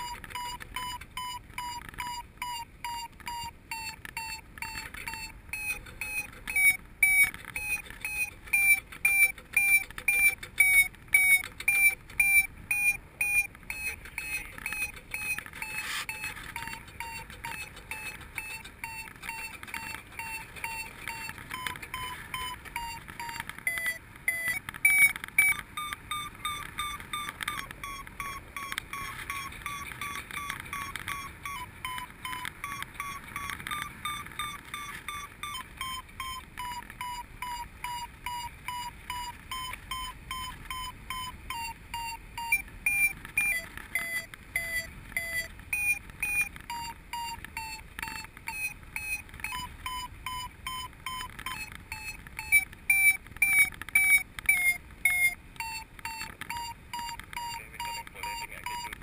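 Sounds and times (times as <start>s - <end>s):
variometer short beeps: 0.0s - 59.0s.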